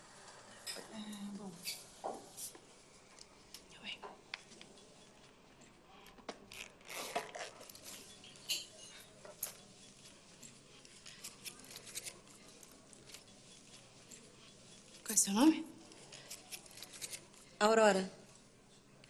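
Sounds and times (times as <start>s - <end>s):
faint bar ambience: 0.0s - 19.0s.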